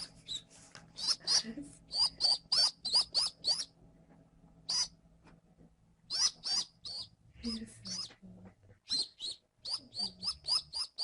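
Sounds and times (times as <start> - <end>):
baby pigeon peeping: 0.0 - 3.8, 4.6 - 5.0, 6.0 - 11.0.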